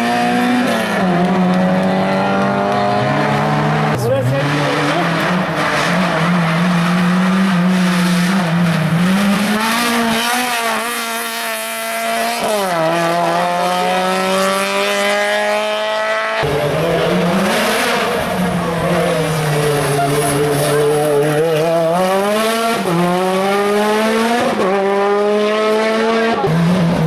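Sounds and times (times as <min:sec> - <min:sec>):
race car engine at full throttle: 0:00.0 - 0:27.0.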